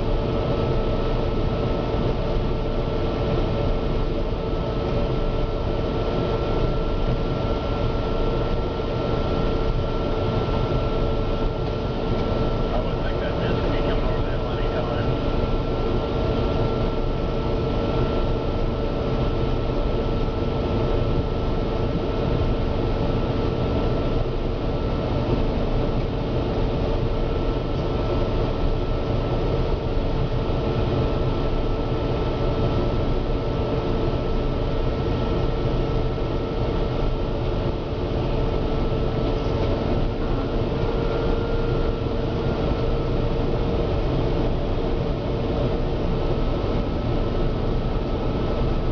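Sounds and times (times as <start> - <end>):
combine harvester drone: 0.0 - 48.9
steady machine whine: 0.0 - 48.9.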